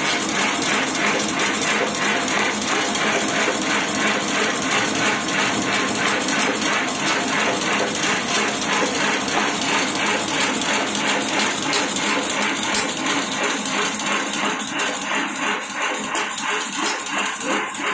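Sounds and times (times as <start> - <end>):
machine clacking: 0.0 - 17.9.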